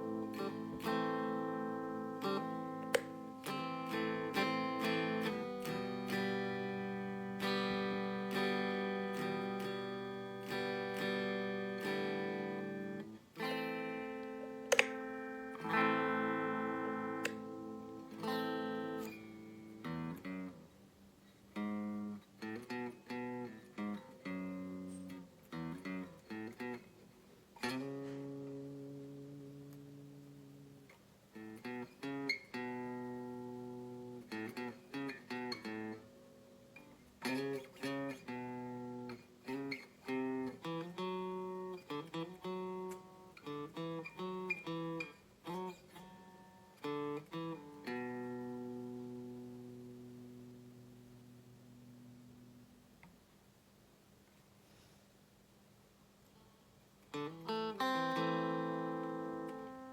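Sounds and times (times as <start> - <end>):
clean electric guitar notes and chords: 0.0 - 53.0, 57.1 - 59.9.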